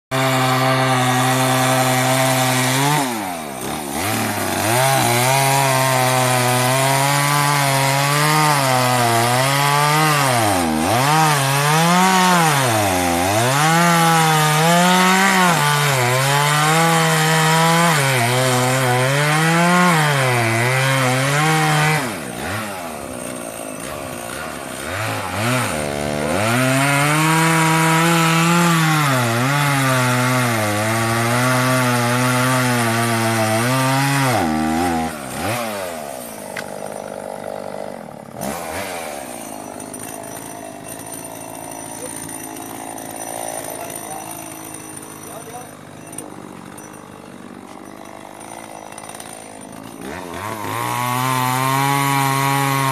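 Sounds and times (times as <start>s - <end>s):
chainsaw cutting wood: 0.1s - 52.9s.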